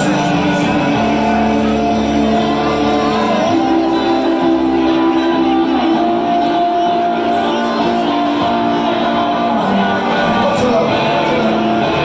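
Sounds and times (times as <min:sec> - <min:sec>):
electric guitar sustained chords: 0:00.0 - 0:12.0
live rock band playing: 0:00.0 - 0:12.0.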